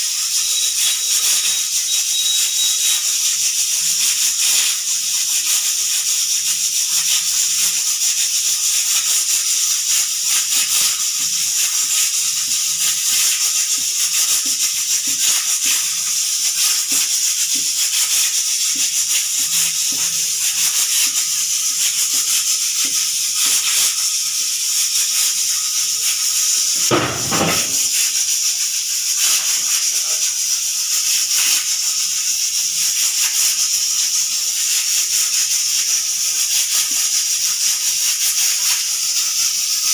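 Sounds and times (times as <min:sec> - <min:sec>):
pressure cooker whistle hissing: 0:00.0 - 0:39.9.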